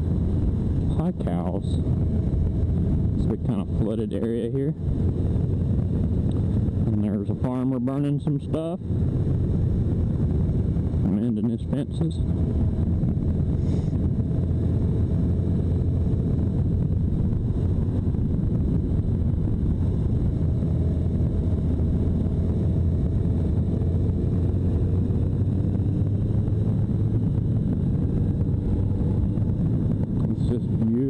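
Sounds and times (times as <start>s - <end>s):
motorcycle engine cruising: 0.0s - 31.0s
wind rush on microphone: 0.0s - 31.0s.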